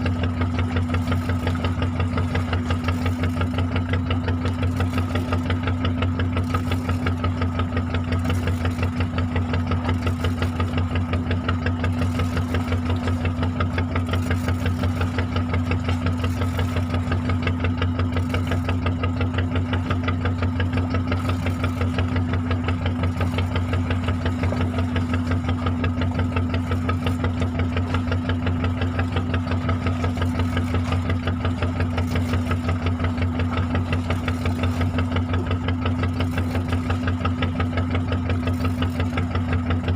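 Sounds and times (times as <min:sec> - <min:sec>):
boat engine throbbing: 0:00.0 - 0:39.9.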